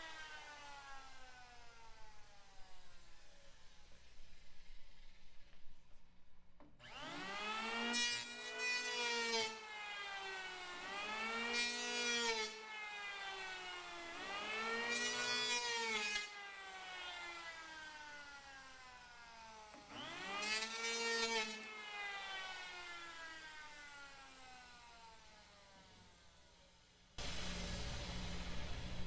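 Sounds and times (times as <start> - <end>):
electric planer whining: 0.0 - 5.5, 6.8 - 29.0.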